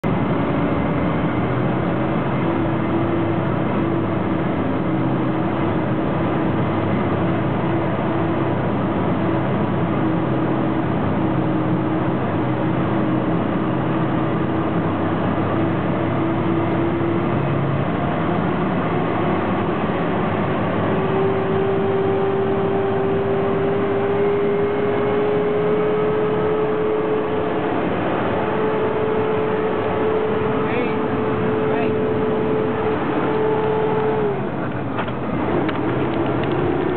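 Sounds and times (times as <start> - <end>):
car engine hum: 0.0 - 36.9
tyre and road noise: 0.0 - 36.9.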